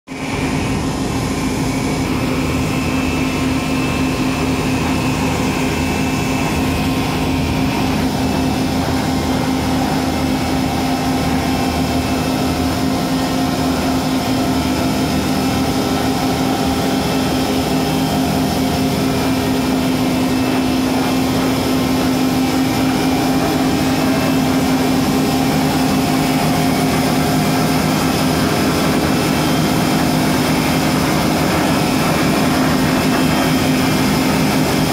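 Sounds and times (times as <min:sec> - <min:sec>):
rail grinding machine drone: 0:00.1 - 0:34.9.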